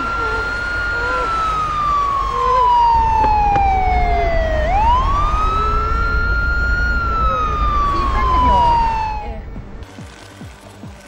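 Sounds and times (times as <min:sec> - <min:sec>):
emergency siren wailing: 0:00.0 - 0:09.8.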